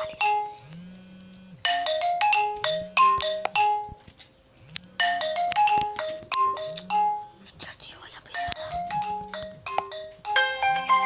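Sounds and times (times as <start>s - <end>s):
phone alarm electronic melody: 0.0s - 4.1s, 5.0s - 7.4s, 8.4s - 11.0s.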